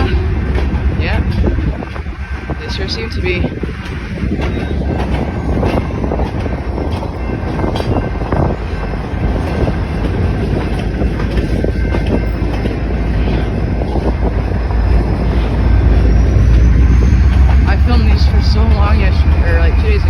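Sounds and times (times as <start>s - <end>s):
freight train rolling by: 0.0s - 20.0s.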